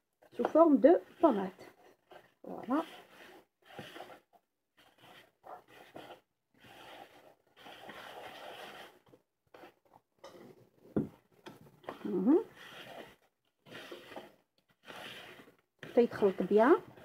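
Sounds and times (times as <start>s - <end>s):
hands kneading in plastic bowl: 0.3s - 10.1s, 10.7s - 17.0s.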